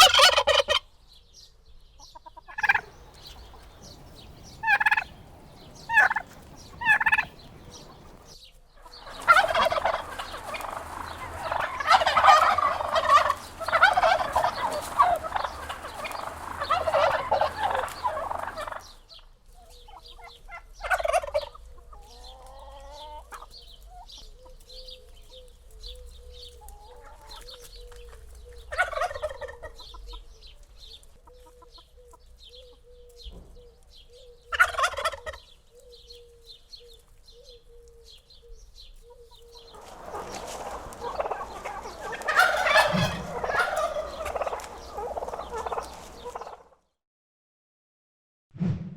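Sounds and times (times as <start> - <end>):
turkeys gobbling: 0.0 - 0.9, 2.1 - 32.8, 34.4 - 36.2, 38.9 - 46.8.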